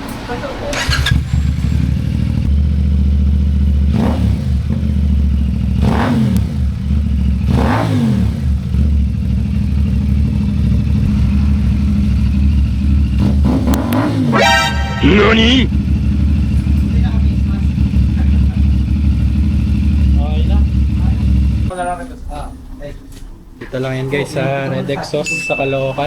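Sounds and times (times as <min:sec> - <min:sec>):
motorcycle engine idling: 0:00.4 - 0:22.5
engine revving: 0:00.7 - 0:21.7.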